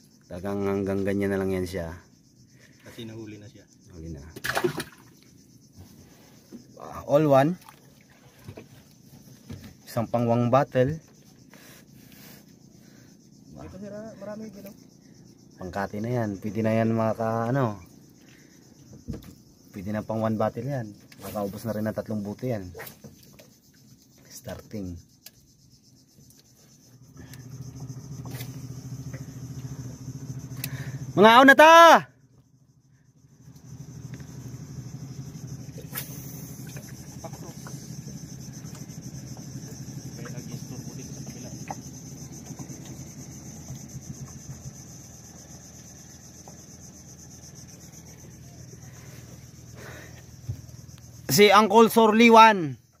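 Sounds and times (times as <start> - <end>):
boat engine humming: 0.0 - 53.0
insects buzzing: 0.0 - 53.0.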